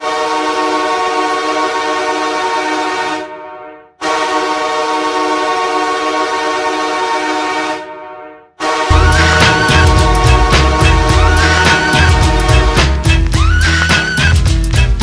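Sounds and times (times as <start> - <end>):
hockey goal horn blasts: 0.0 - 15.0.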